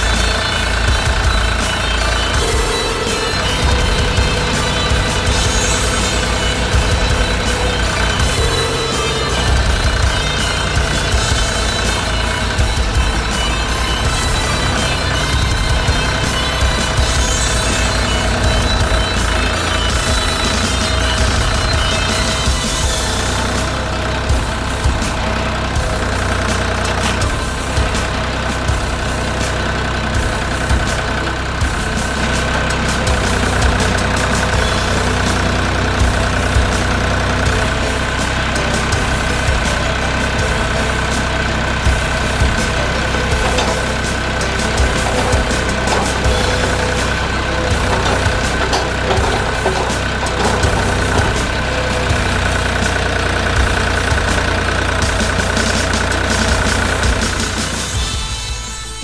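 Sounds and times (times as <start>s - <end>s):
low thumps: 0.0s - 29.1s, 30.2s - 58.4s
diesel tractor engine running: 0.0s - 59.0s
steady high whine: 0.0s - 59.0s.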